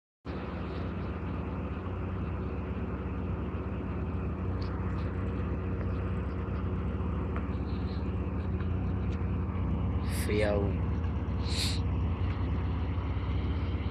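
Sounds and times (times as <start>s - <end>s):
car engine running: 0.3s - 13.9s.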